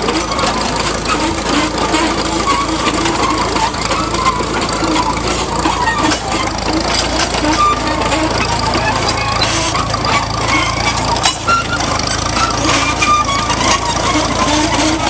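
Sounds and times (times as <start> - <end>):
steam traction engine clattering: 0.0 - 15.0.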